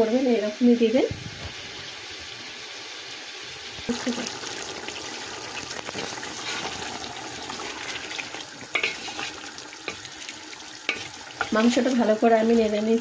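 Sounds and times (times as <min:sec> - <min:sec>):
chicken sizzling in a pot: 0:00.0 - 0:13.0.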